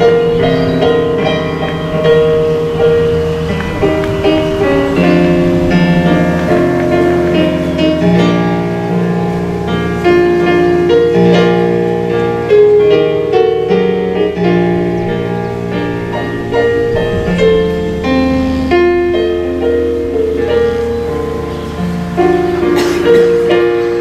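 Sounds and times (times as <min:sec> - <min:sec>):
keyboard instrumental music: 0:00.0 - 0:24.0.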